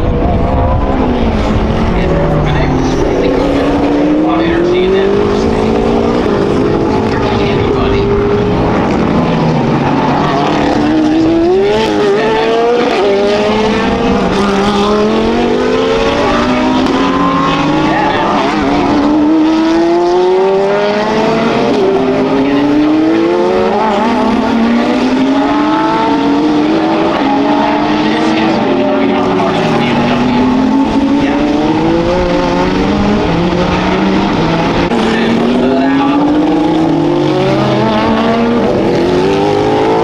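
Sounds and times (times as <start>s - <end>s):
race cars accelerating past: 0.0s - 40.0s.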